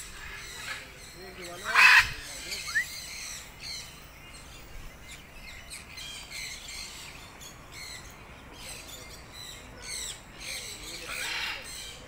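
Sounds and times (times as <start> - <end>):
birds chirping in chorus: 0.0 - 12.0.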